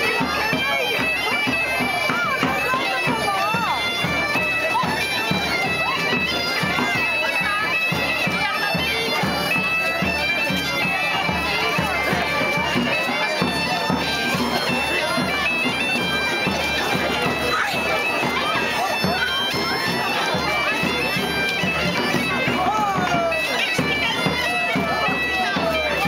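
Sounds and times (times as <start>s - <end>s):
bagpipes playing folk dance tune: 0.0s - 26.0s
crowd voices: 0.0s - 26.0s
steady drum beat: 0.0s - 26.0s.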